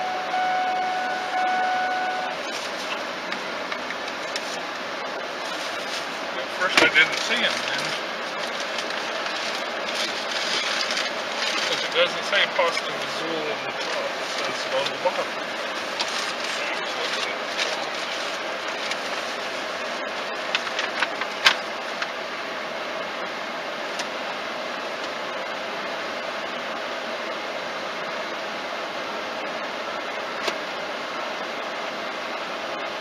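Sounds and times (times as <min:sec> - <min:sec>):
car idling in cabin: 0:00.0 - 0:33.0.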